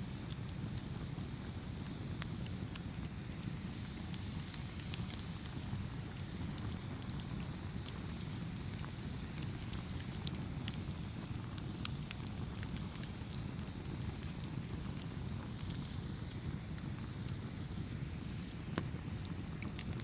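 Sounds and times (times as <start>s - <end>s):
burning wood crackling and popping: 0.0s - 20.0s
low rumble of flames: 0.0s - 20.0s.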